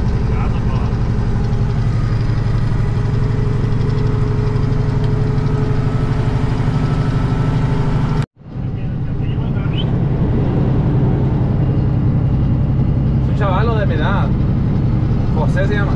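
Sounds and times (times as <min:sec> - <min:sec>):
truck diesel engine running: 0:00.0 - 0:15.9.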